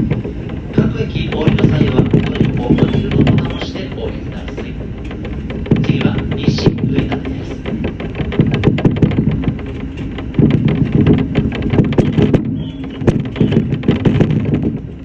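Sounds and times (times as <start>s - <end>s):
electric train rumble: 0.0s - 15.0s
irregular rattling and clicking: 0.0s - 15.0s.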